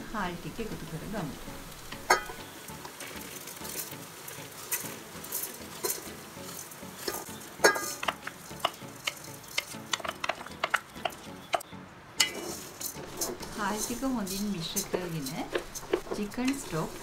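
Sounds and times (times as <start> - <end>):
fat sizzling in a pot: 0.0 - 11.6, 12.2 - 17.0
rice pouring: 1.3 - 11.2, 12.2 - 17.0.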